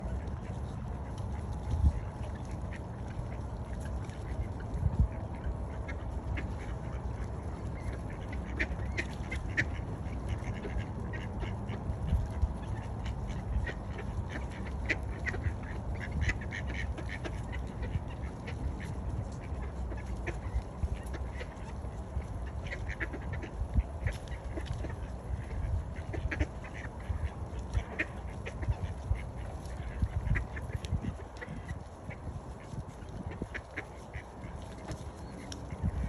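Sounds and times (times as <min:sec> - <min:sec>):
ducks quacking: 0:00.0 - 0:36.0
steady low rumble: 0:00.0 - 0:36.0.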